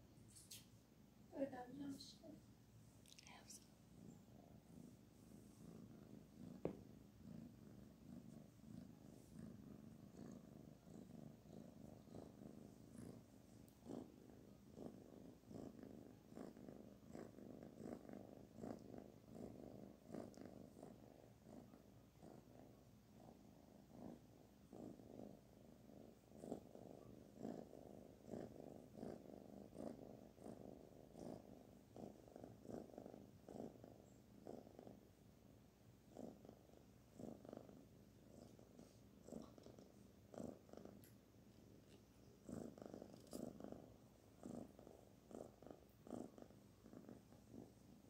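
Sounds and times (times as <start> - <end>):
kitten purring: 0.1 - 48.0.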